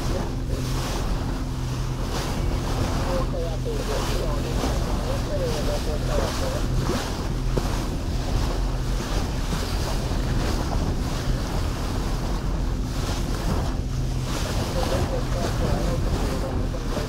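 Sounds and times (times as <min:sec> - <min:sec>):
boat engine droning: 0:00.0 - 0:17.0
water splashing along hull: 0:00.0 - 0:17.0
wind buffeting microphone: 0:00.0 - 0:17.0.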